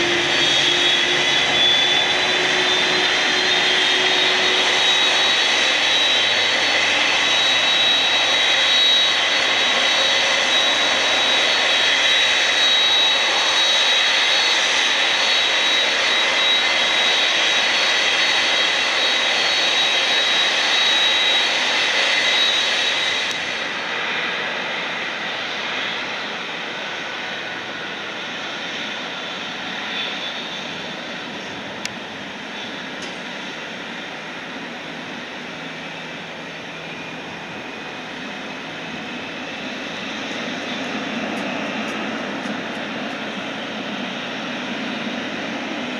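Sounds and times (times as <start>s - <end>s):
distant jet engine: 0.0s - 45.9s
jet engines idling: 0.0s - 45.9s.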